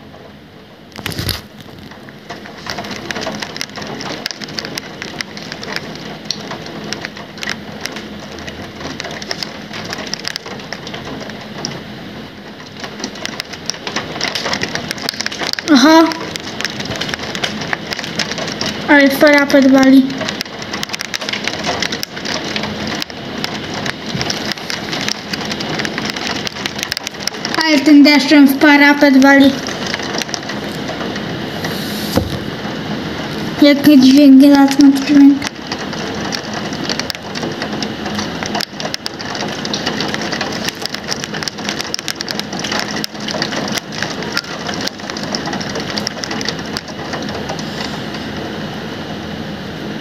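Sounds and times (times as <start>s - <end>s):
heavy rain on windowsill: 0.0s - 50.0s.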